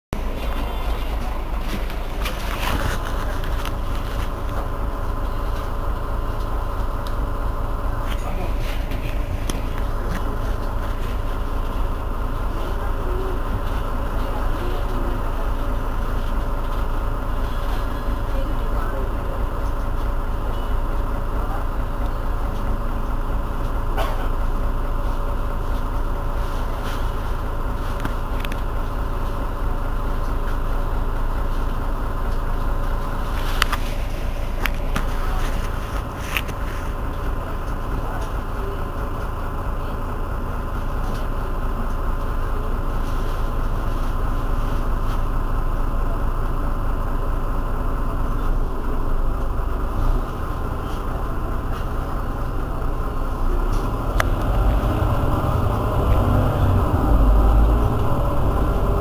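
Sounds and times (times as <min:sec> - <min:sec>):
bus engine idling: 0:00.1 - 0:59.0.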